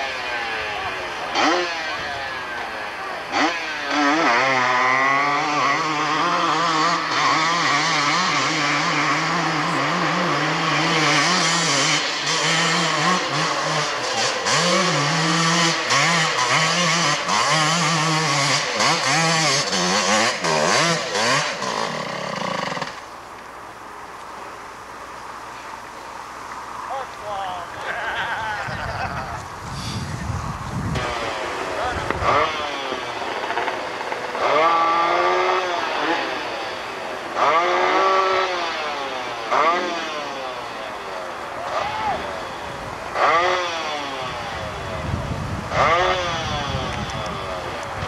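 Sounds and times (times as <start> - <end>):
atv engine revving: 0.0 - 23.3, 24.3 - 48.0.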